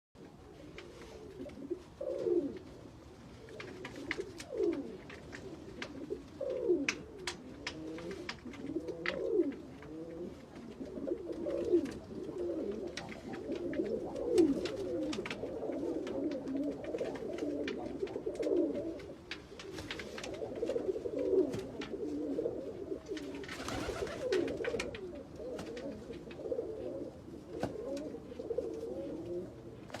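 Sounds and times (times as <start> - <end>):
pigeons cooing: 0.2 - 30.0
rustle: 0.2 - 30.0.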